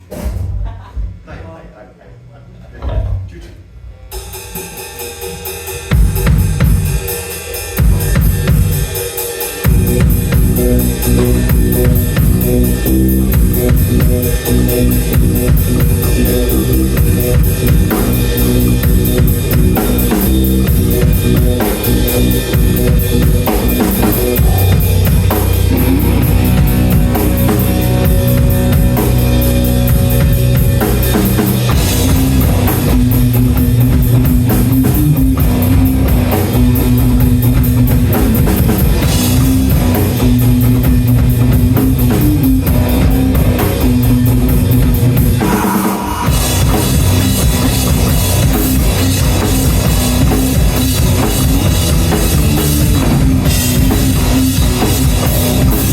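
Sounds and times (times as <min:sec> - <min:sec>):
loud rock music: 0:04.1 - 0:55.9.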